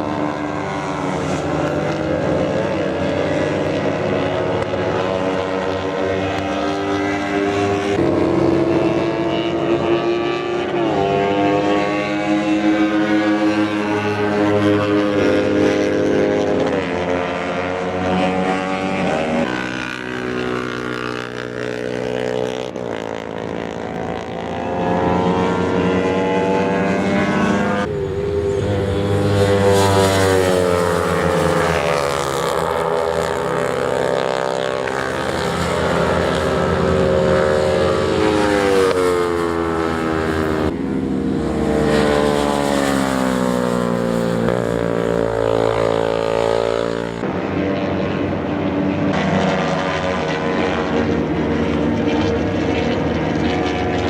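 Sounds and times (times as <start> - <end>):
racing motorcycle engines revving: 0.0 - 54.0.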